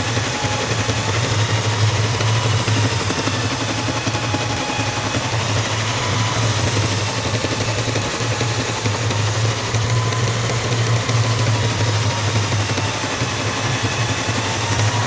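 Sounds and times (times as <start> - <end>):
machine motor humming: 0.0 - 15.0.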